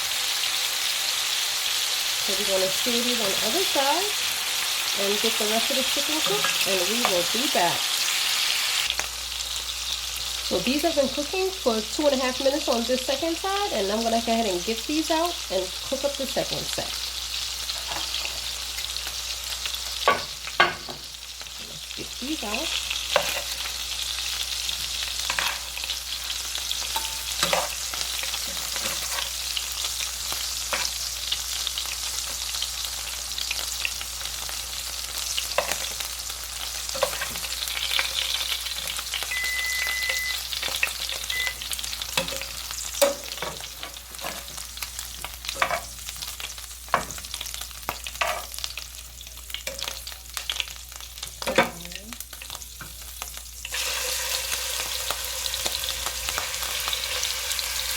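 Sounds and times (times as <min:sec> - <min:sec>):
meat sizzling in a pot: 0:00.0 - 0:57.9.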